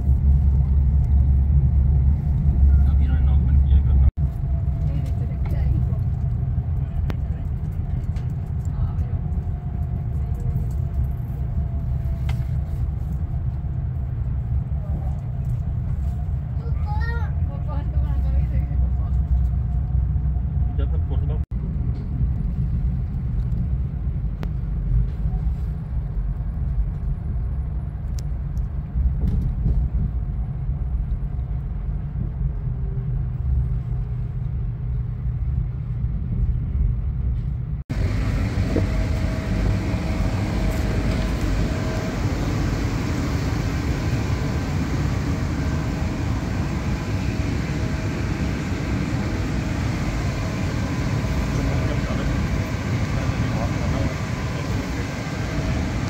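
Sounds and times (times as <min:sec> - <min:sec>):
stopped train hum and hiss: 0:00.0 - 0:56.0
train carriage rumble: 0:00.0 - 0:56.0.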